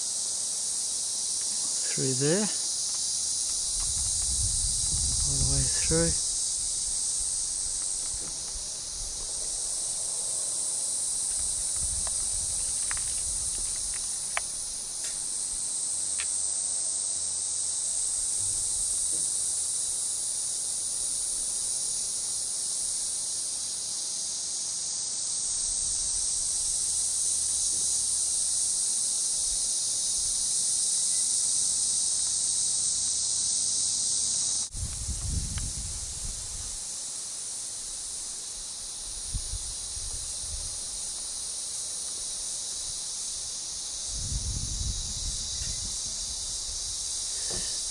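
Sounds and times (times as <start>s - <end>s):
insects buzzing: 0.0s - 47.9s.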